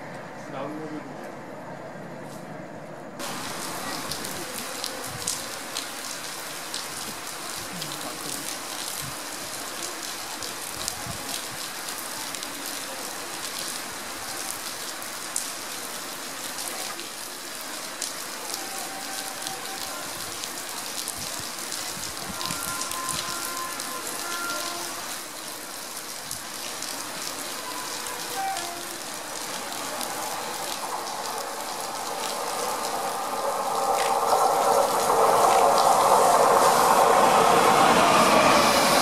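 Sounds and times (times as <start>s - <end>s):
heavy rain: 3.2s - 39.0s.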